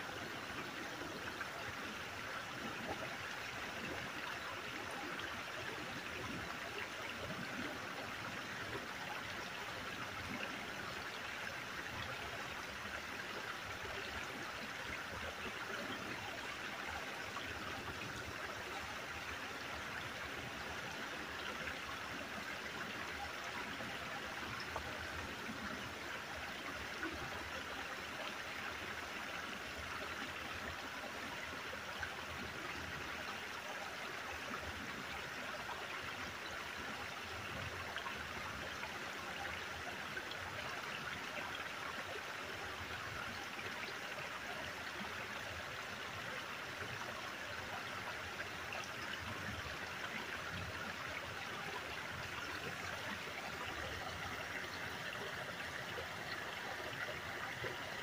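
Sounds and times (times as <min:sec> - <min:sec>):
creek flowing over stones: 0:00.0 - 0:58.0.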